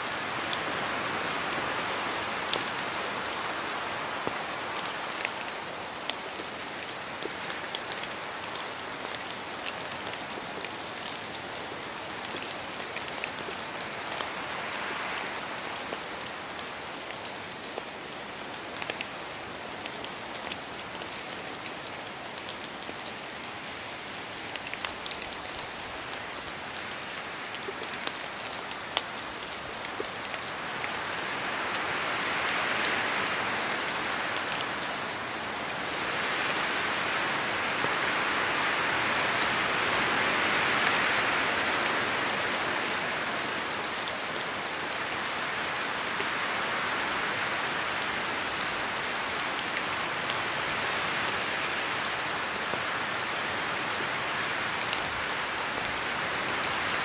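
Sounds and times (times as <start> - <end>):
rain falling in a forest: 0.0 - 57.0
wind: 0.0 - 57.0.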